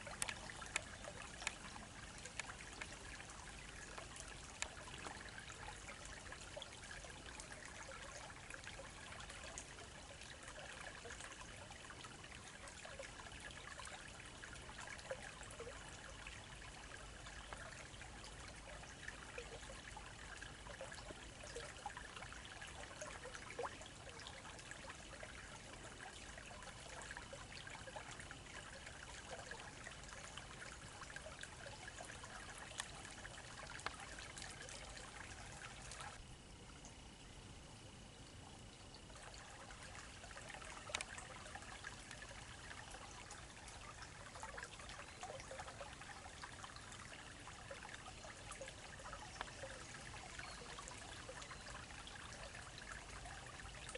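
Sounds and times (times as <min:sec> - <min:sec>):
faint ticks: 0:00.0 - 0:36.2, 0:38.2 - 0:53.9
stream trickling: 0:00.0 - 0:53.9.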